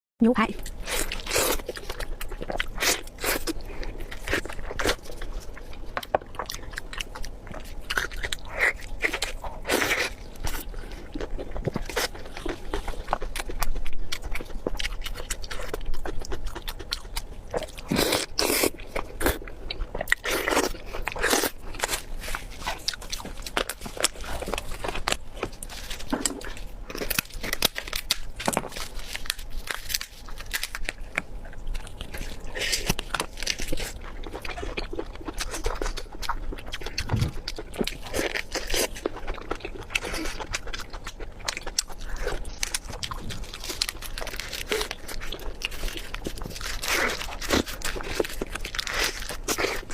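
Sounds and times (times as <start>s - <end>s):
person chewing crunchy food: 0.5s - 49.9s.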